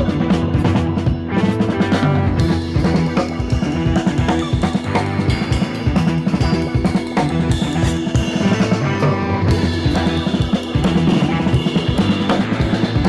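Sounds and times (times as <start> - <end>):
music with drum beat: 0.0 - 13.0.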